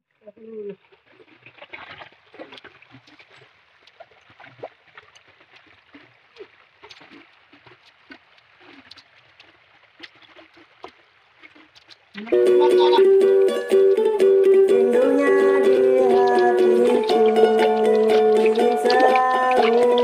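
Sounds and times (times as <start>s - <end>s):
shallow river water splashing: 0.1s - 20.0s.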